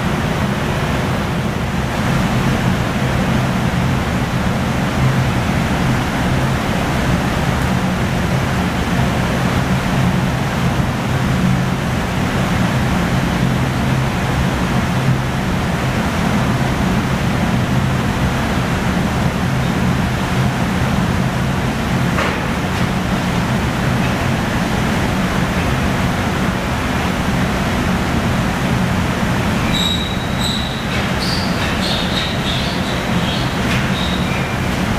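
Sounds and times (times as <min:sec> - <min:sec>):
roar of furnaces and fans: 0:00.0 - 0:34.9.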